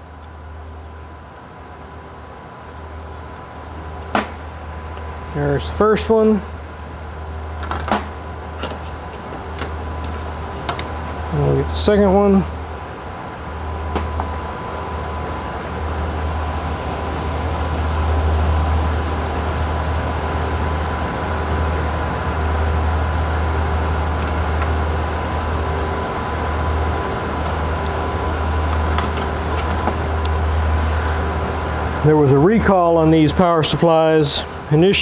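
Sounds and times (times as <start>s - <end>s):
cooling fans humming: 0.0s - 35.0s
thin high whine: 1.8s - 35.0s.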